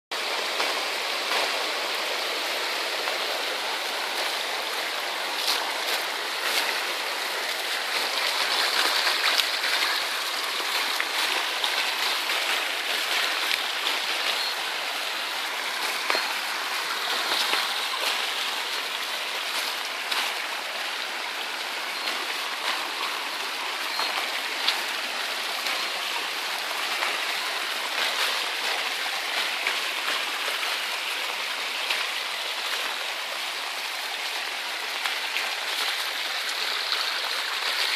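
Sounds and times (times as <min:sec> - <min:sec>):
water rushing along track: 0:00.1 - 0:37.9.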